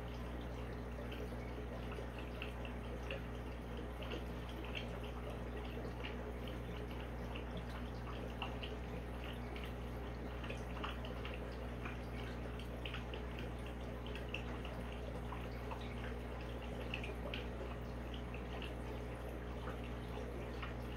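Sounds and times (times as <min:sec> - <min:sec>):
aquarium filter hum: 0:00.0 - 0:20.9
water trickling and dripping: 0:00.0 - 0:20.9.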